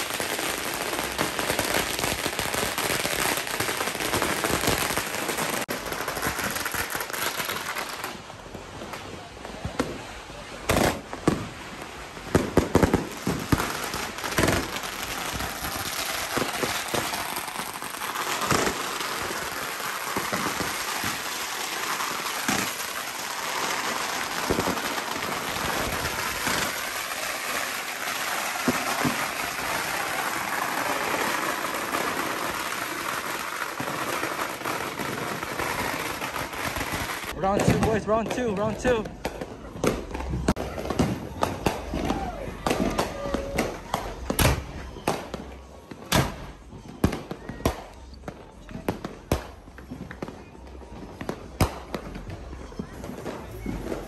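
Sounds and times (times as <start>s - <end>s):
firework bangs: 0.0s - 48.1s
fireworks crackling and popping: 0.0s - 54.0s.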